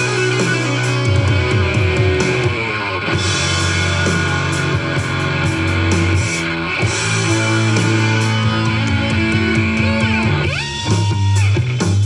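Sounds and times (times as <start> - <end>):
electric guitar rock music: 0.0 - 12.0.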